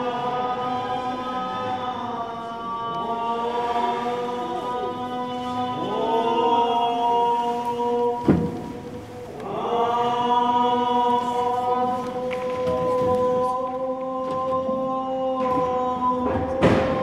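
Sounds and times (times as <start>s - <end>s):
chanted mantra: 0.0s - 17.0s.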